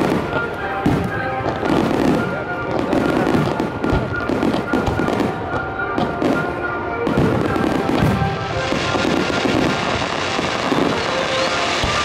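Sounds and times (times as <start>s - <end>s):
fireworks shells bursting: 0.0s - 12.0s.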